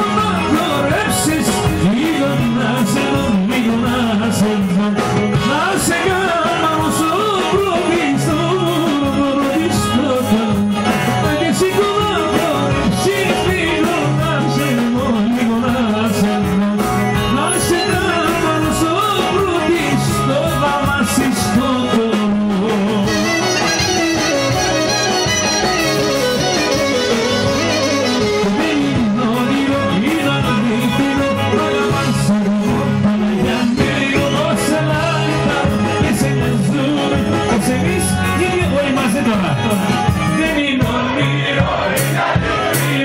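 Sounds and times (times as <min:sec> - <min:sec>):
folk band playing: 0:00.0 - 0:43.0
man singing: 0:00.0 - 0:43.0.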